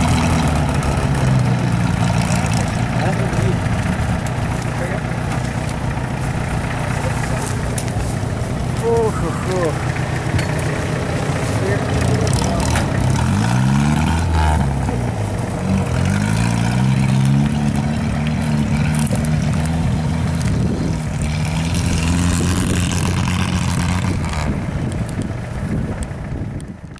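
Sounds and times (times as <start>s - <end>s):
off-road vehicle engine revving: 0.0s - 26.9s.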